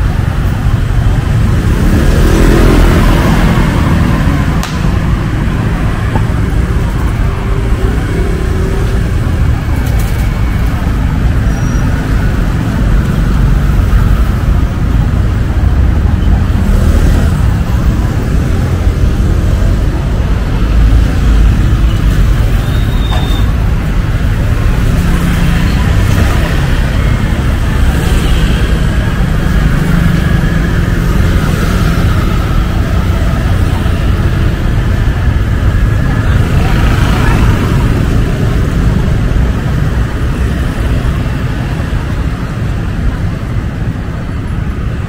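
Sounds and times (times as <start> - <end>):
rumble of passing traffic: 0.0 - 45.0.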